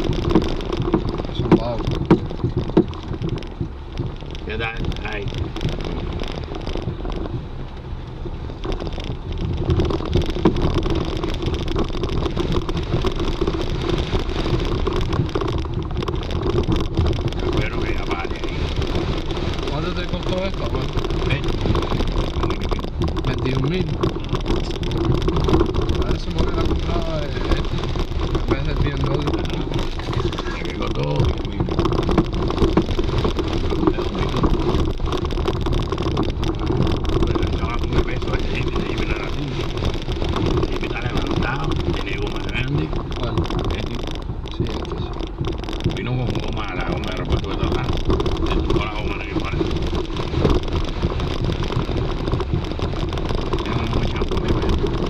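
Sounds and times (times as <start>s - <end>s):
car body rattling and knocking: 0.0s - 55.0s
car engine running: 0.0s - 55.0s.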